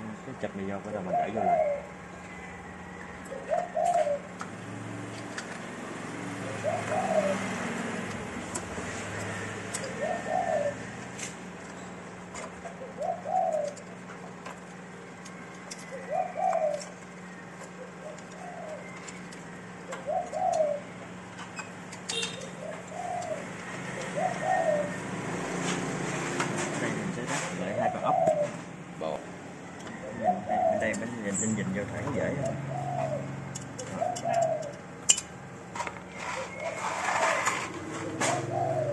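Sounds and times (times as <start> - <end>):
dove cooing: 0.8 - 35.0, 36.1 - 38.9.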